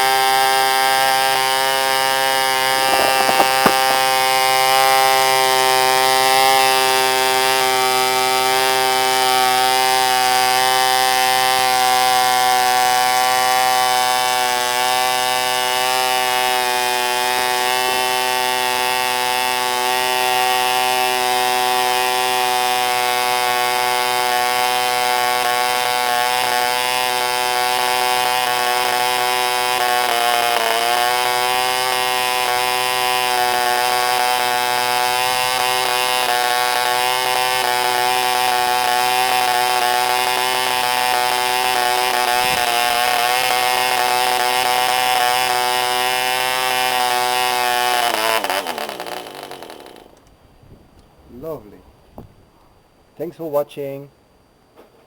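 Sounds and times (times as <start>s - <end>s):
model engine buzzing: 0.0s - 50.3s.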